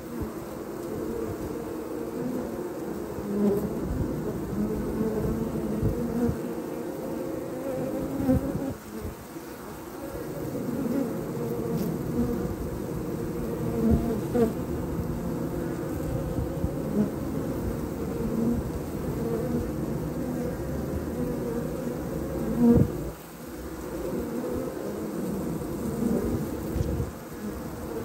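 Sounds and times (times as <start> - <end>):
bees humming at a hive: 0.0 - 28.0
single bee buzzing close by: 0.0 - 28.0.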